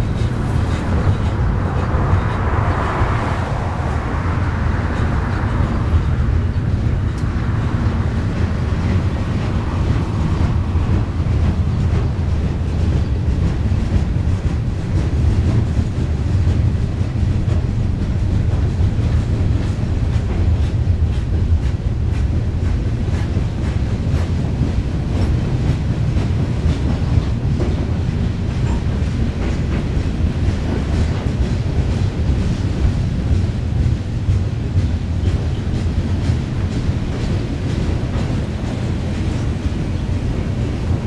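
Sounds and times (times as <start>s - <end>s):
freight train cars rumbling: 0.0s - 41.0s.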